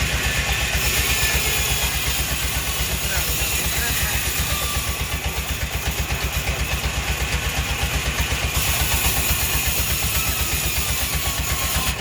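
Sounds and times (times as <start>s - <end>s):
engine running with low thumping: 0.0s - 12.0s.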